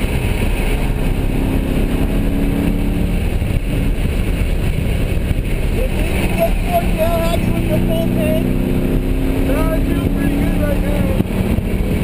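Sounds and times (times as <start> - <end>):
car engine running: 0.0 - 12.0
road noise: 0.0 - 12.0
wind noise: 0.0 - 12.0.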